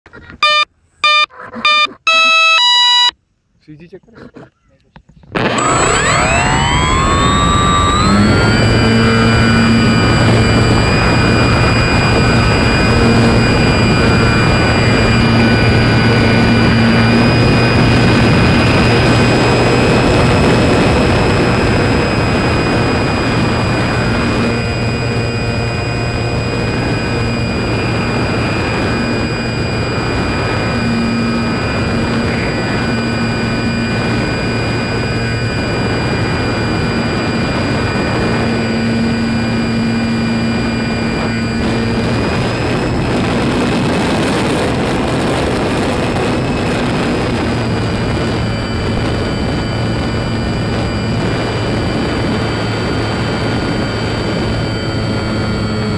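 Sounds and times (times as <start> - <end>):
model plane motor whine: 0.2 - 3.1, 5.4 - 55.9.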